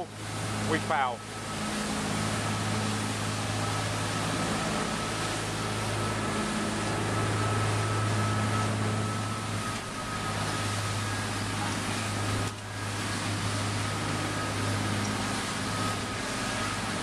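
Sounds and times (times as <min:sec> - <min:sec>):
boat engines droning: 0:00.0 - 0:17.0
churning wake water: 0:00.0 - 0:17.0.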